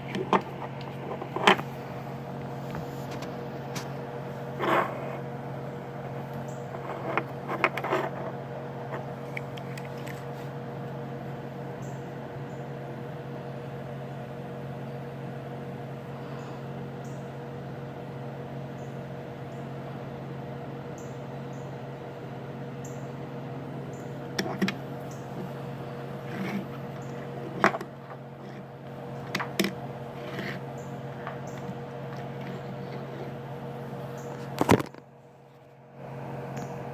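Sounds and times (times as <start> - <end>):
low machine hum: 0.0 - 36.9.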